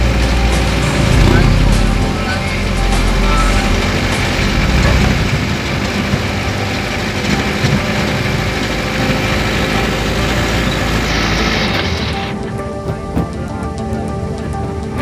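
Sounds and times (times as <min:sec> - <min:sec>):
road noise: 0:00.0 - 0:15.0
truck engines droning: 0:00.0 - 0:15.0.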